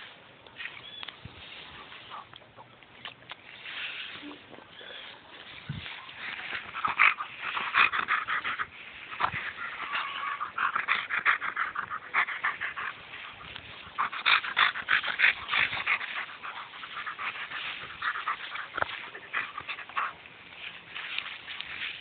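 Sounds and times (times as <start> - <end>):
grass rustling against fur: 0.0 - 22.0.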